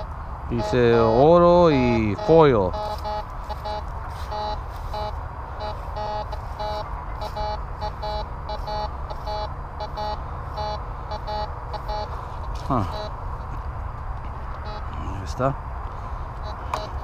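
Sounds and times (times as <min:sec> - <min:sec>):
metal detector beeping: 0:00.0 - 0:13.2, 0:14.6 - 0:14.9, 0:16.4 - 0:17.0.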